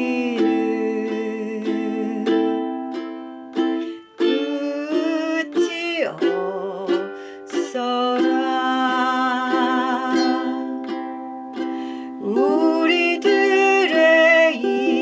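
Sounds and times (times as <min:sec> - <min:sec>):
person singing long notes: 0:00.0 - 0:03.0, 0:04.1 - 0:11.1, 0:11.9 - 0:15.0
ukulele strumming: 0:00.0 - 0:15.0.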